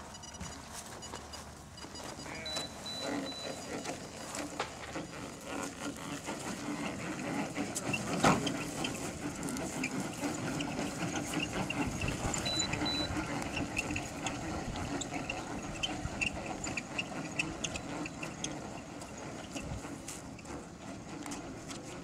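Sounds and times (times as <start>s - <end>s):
model airplane engine idling: 2.2s - 22.0s.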